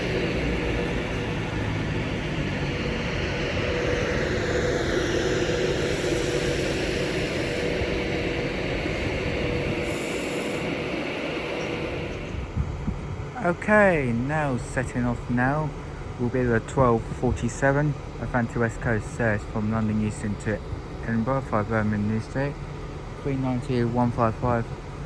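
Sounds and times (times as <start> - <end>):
train equipment and fans humming: 0.0 - 25.0.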